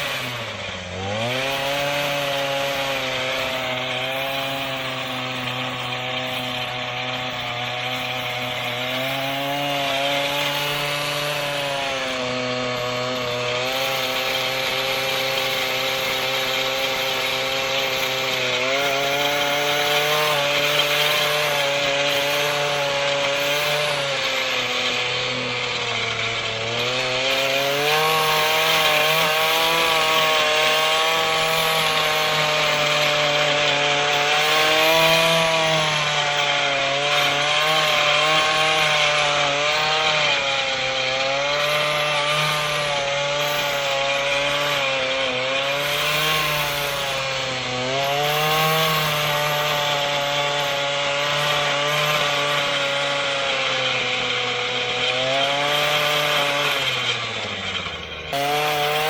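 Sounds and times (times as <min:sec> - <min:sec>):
tiller engine running: 0:00.0 - 0:59.0.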